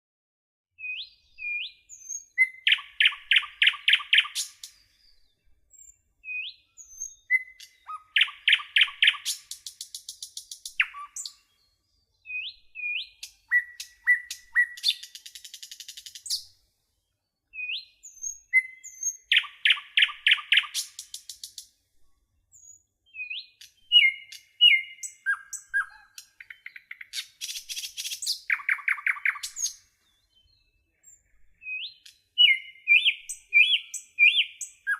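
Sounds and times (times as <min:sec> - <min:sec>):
songbird singing: 0:00.8 - 0:34.9.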